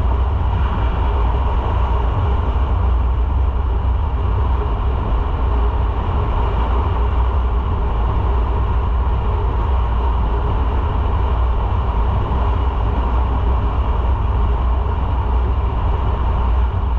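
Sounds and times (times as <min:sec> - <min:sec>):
motorcycle engine drone: 0:00.0 - 0:16.9
wind and road noise: 0:00.0 - 0:16.9.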